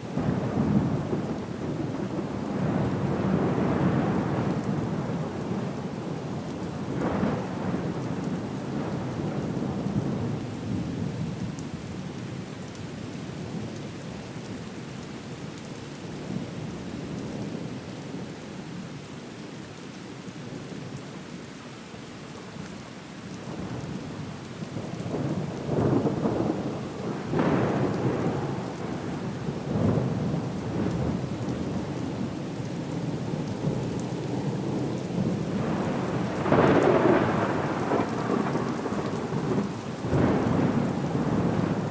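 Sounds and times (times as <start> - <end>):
rain: 0.0 - 41.9.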